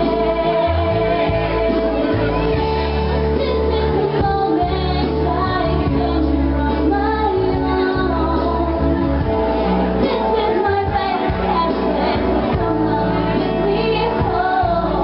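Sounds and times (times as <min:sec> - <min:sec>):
backing music over loudspeakers: 0:00.0 - 0:15.0
woman singing into a microphone: 0:00.0 - 0:15.0.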